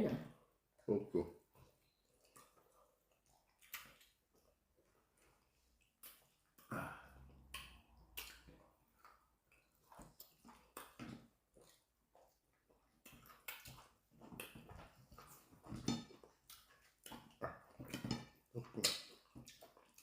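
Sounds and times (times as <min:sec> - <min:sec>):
faint eating sounds: 0:00.0 - 0:20.0.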